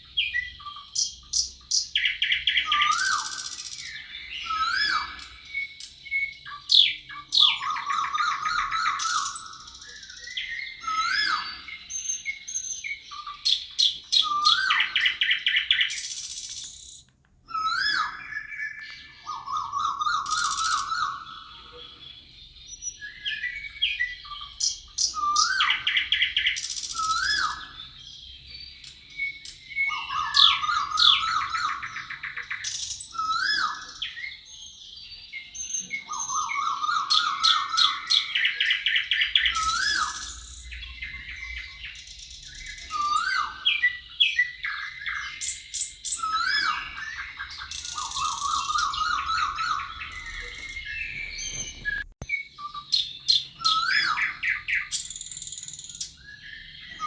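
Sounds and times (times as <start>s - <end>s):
bird chirps: 0.0s - 57.0s
songbirds singing: 0.0s - 57.0s.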